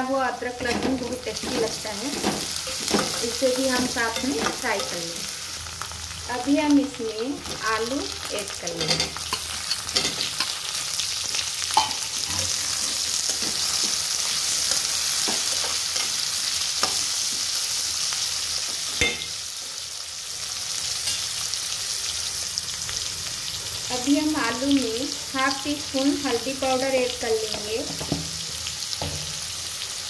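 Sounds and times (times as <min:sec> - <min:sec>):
potatoes sizzling in hot oil: 0:00.0 - 0:30.0.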